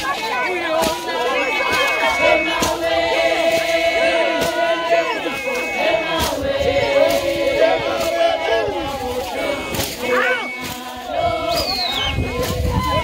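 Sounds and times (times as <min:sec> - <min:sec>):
women singing a chant: 0:00.0 - 0:13.0.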